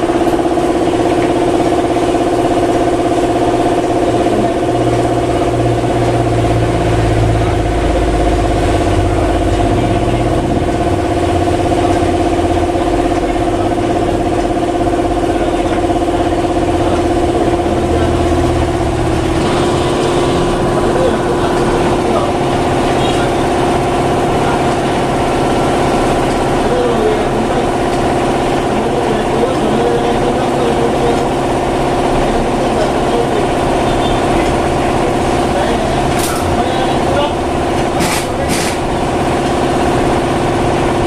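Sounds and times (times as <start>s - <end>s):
steady mechanical motor hum: 0.0s - 41.0s.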